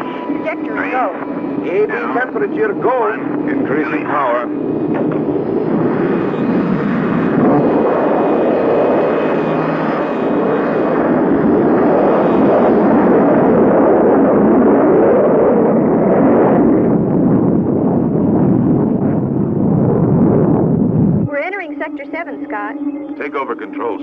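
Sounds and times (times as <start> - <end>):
faint high whine: 0.0 - 24.0
rocket engine rushing: 0.0 - 24.0.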